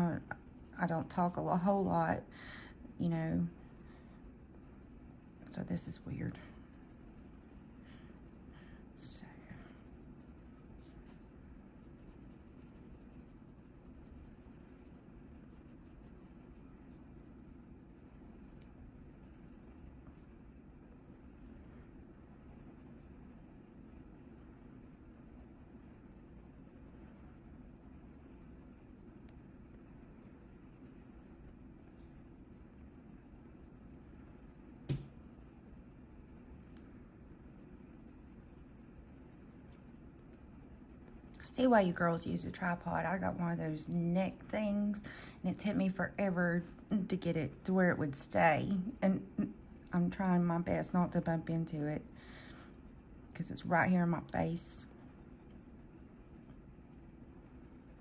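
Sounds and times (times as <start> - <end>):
colored pencil scratching paper: 0.0 - 2.0, 3.0 - 17.1, 17.7 - 36.8, 37.4 - 43.3, 47.0 - 48.2, 50.2 - 58.0
room tone hum: 0.0 - 58.0.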